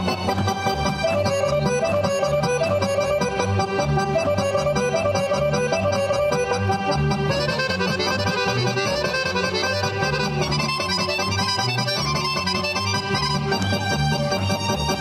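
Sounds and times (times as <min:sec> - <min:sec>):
accordion folk dance music: 0:00.0 - 0:15.0.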